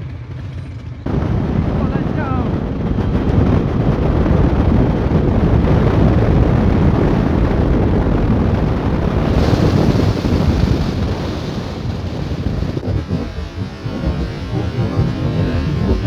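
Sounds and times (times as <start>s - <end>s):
low engine rumble: 0.0s - 16.0s
wind rushing over microphone: 0.9s - 16.0s.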